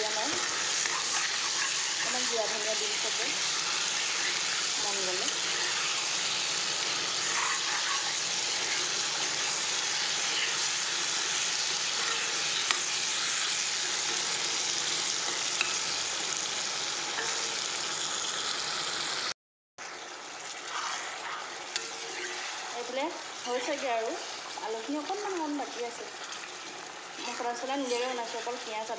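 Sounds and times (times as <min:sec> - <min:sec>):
food sizzling in hot oil: 0:00.0 - 0:28.9.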